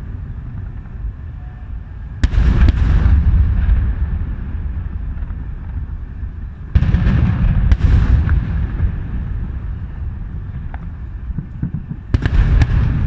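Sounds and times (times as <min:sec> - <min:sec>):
long rolling rumble: 0:00.0 - 0:13.0
fireworks bursting: 0:02.1 - 0:13.0
firework crack: 0:02.2 - 0:13.0.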